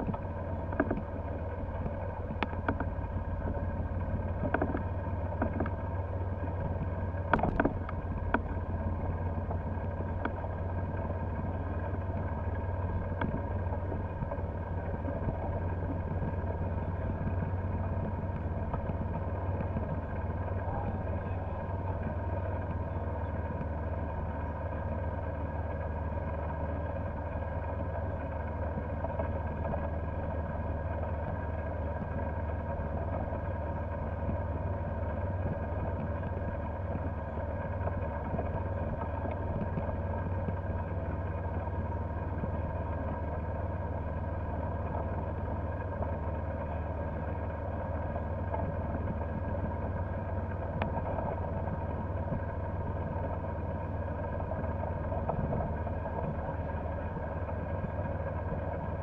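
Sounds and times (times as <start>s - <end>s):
golf cart droning: 0.0s - 59.0s.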